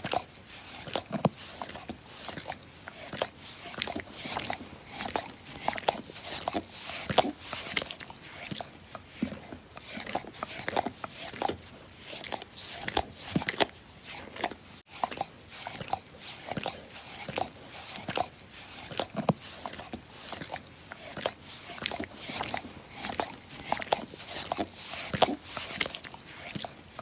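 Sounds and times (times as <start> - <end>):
dog licking: 0.0 - 11.6, 12.2 - 27.0.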